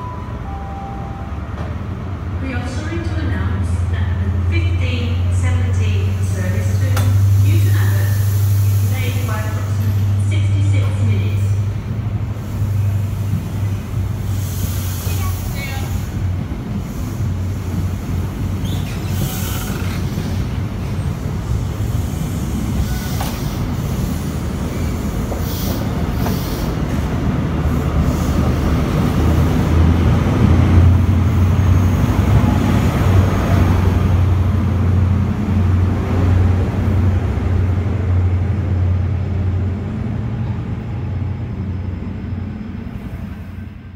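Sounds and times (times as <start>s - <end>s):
train coaches rumbling past: 0.0s - 43.9s.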